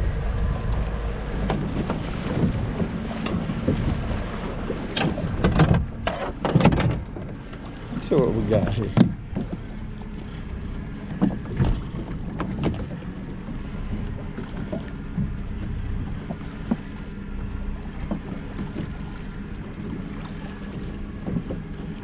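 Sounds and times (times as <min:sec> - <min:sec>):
outboard motor running: 0:00.0 - 0:22.0
water washing along hull: 0:00.0 - 0:22.0.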